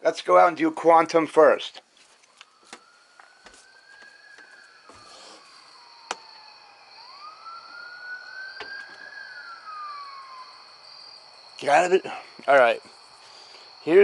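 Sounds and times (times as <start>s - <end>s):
distant siren wailing: 0.9s - 14.0s.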